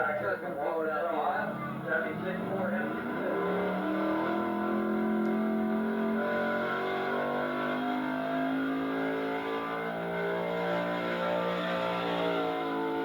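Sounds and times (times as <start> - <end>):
truck engine running at high revs: 1.1 - 13.0.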